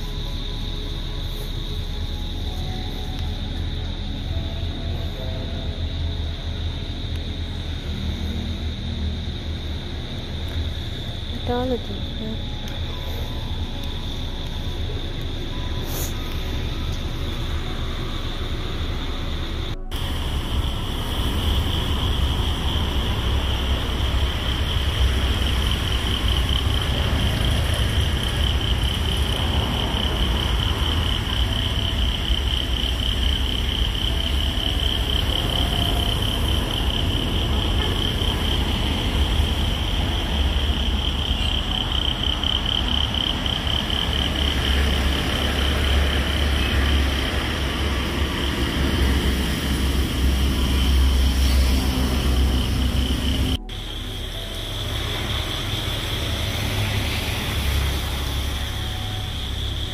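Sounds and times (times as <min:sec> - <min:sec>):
shrill insect chorus: 0:00.0 - 0:59.9.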